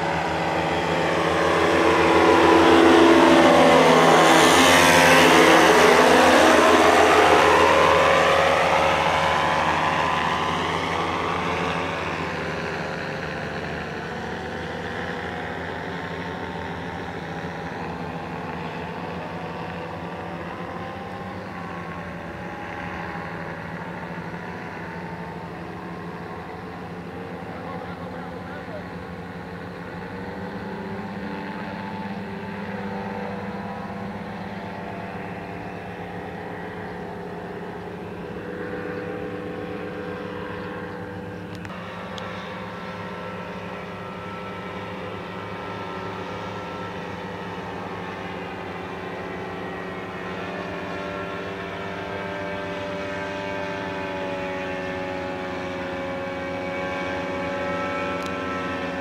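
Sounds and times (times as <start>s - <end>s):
paramotor engine droning overhead: 0.0s - 59.0s.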